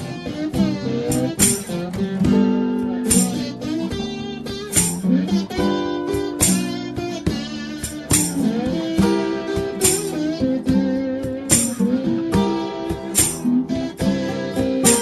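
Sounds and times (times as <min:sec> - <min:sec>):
acoustic blues guitars: 0:00.0 - 0:15.0
sharp percussive accent: 0:00.0 - 0:15.0.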